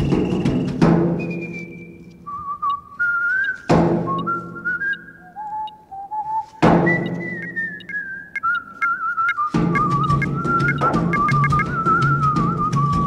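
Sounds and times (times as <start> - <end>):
slow whistled tune: 0.0 - 13.0.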